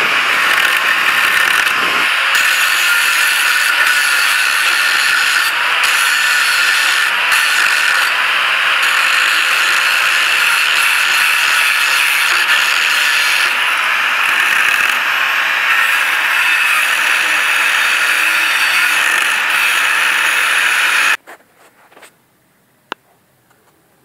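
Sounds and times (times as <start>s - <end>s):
angle grinder grinding steel: 0.0s - 21.2s.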